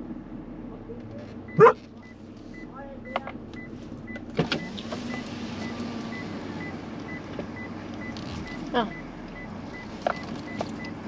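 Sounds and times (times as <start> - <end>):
car engine idling: 0.0 - 11.0
parking sensor beeping: 1.4 - 11.0.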